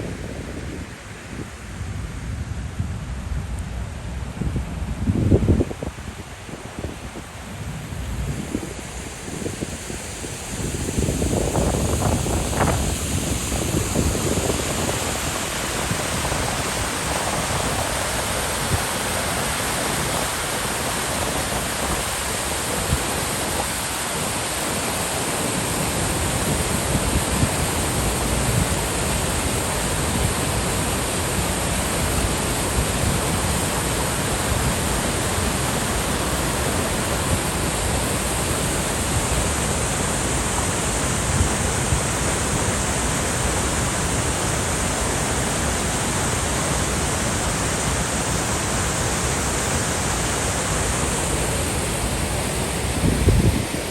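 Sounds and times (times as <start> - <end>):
waterfall roaring: 3.7 - 53.9.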